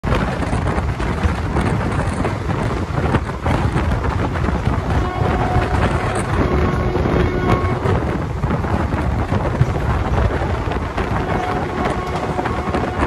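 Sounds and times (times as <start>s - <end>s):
train rumbling at high speed: 0.0s - 13.0s
wind buffeting microphone: 0.0s - 13.0s.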